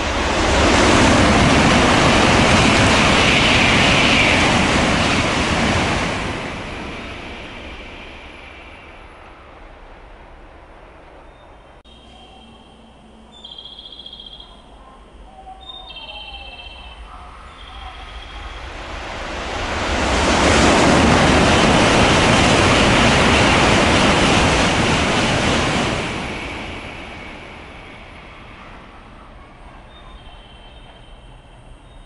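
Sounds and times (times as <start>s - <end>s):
train rushing past: 0.0s - 32.0s.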